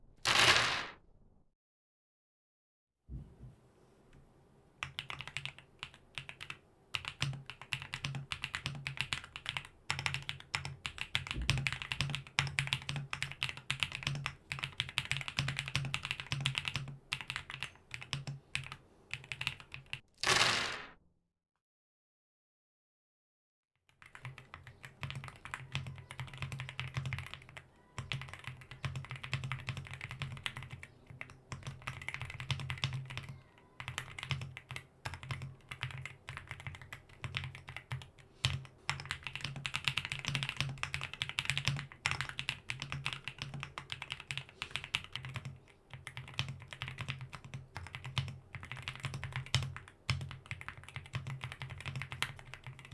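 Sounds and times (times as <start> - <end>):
fast typing on mechanical keyboard: 4.8 - 20.0, 23.9 - 52.9.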